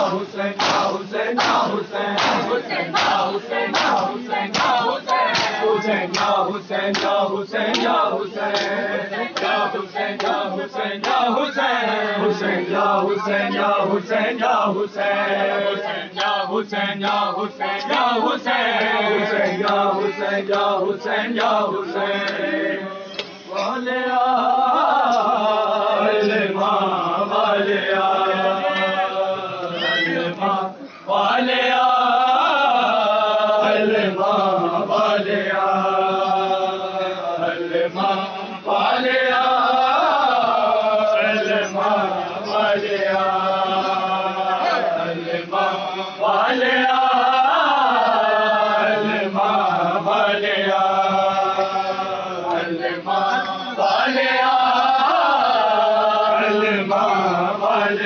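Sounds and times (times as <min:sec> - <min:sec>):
men chanting a lament: 0:00.0 - 0:58.0.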